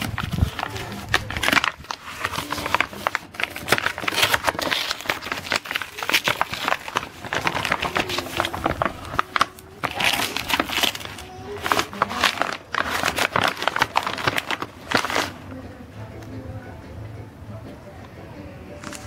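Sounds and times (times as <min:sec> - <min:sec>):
paper and tape ripping: 0:00.0 - 0:15.4, 0:18.8 - 0:19.0.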